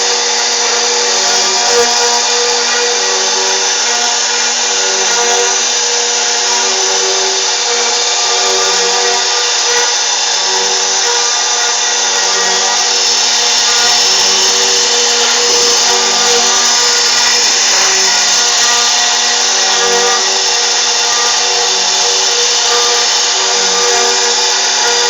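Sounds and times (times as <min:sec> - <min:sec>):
router spindle whining while carving: 0:00.0 - 0:25.0.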